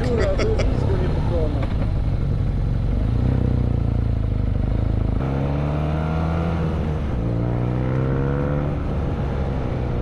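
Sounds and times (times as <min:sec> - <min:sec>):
motorcycle engine accelerating: 0:00.9 - 0:10.0.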